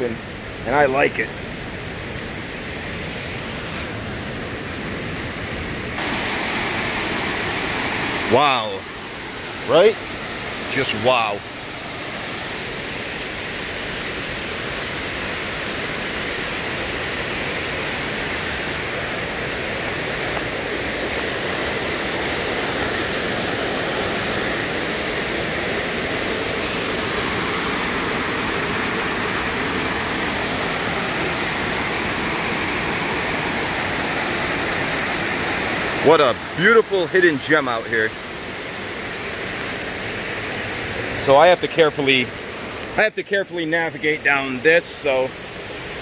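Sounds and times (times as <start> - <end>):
waterfall and rapids rushing: 0.0 - 46.0.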